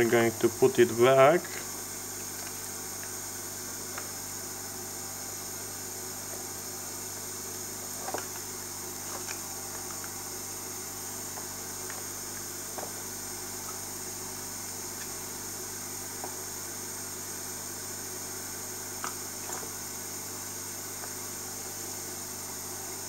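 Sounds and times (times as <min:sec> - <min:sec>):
steady low hum and hiss: 0:00.0 - 0:23.0.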